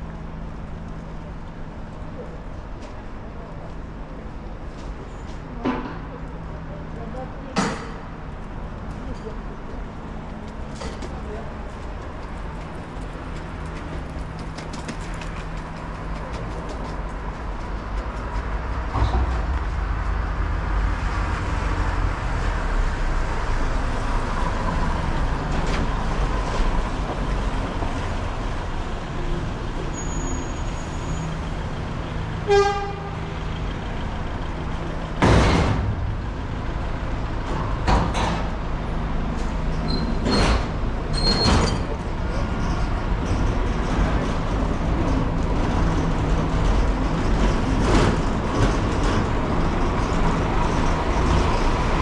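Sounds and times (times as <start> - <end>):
traffic engine rumble: 0.0 - 52.0.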